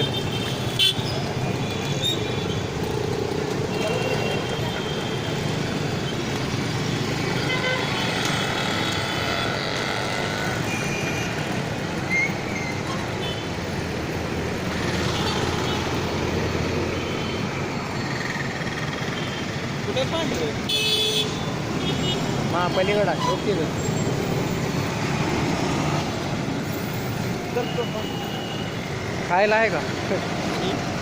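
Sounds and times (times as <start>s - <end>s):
street traffic passing: 0.0s - 31.0s.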